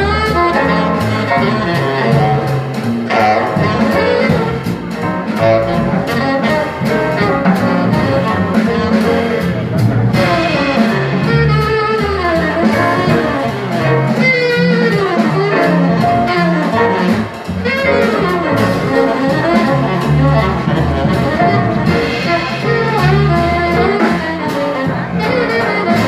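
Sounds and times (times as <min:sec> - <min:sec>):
double bass: 0:00.0 - 0:26.0
drums: 0:00.0 - 0:26.0
piano: 0:00.0 - 0:26.0
tenor saxophone melody: 0:00.0 - 0:26.0.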